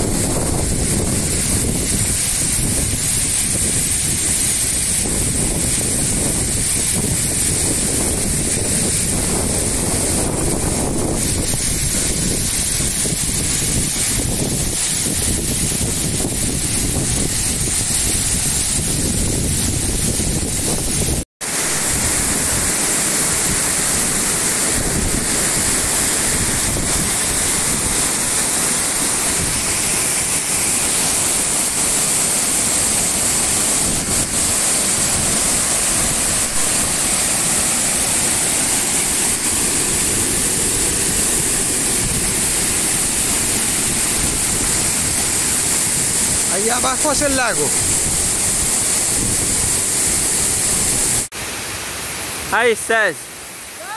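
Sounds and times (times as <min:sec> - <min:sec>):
wind buffeting microphone: 0:00.0 - 0:30.4, 0:33.4 - 0:46.6, 0:47.2 - 0:51.3
waterfall rushing: 0:00.0 - 0:53.9.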